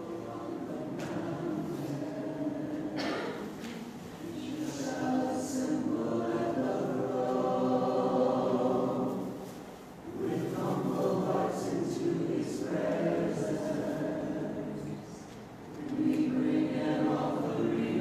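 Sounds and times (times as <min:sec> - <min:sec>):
congregation singing a hymn: 0:00.0 - 0:18.0.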